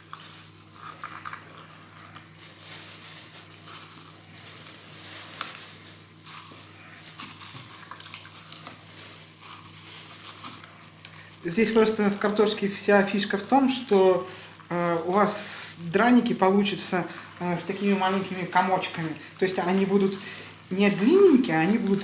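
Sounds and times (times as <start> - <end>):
meat grinder crackling and squishing: 0.0 - 22.0.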